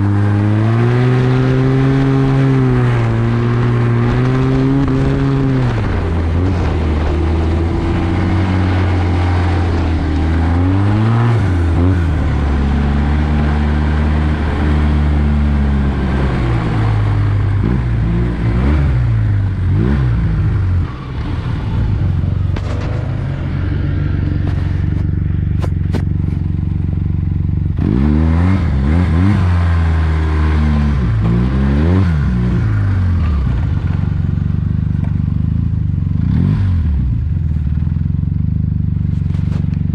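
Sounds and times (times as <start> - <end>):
snowmobile engine: 0.0 - 39.9.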